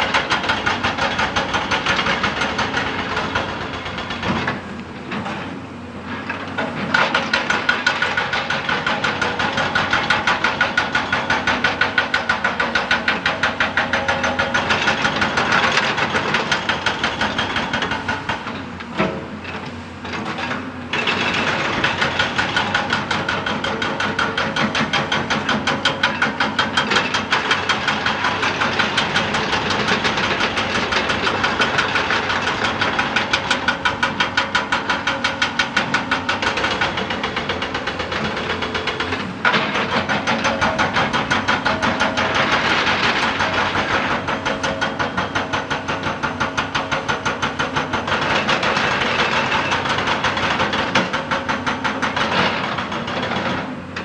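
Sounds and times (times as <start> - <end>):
hydraulic breaker hammering rock: 0.0 - 54.0.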